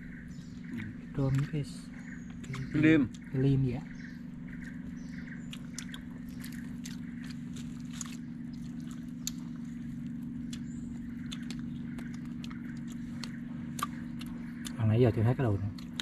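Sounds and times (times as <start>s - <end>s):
steady low hum: 0.0s - 16.0s
small clicks of people eating: 0.6s - 3.4s, 4.5s - 16.0s.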